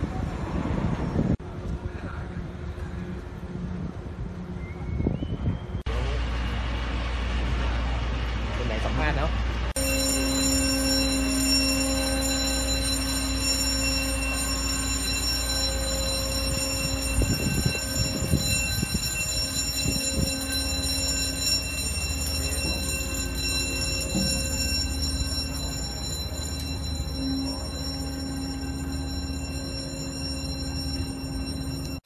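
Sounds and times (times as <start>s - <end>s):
steady machine hum: 5.9s - 32.0s.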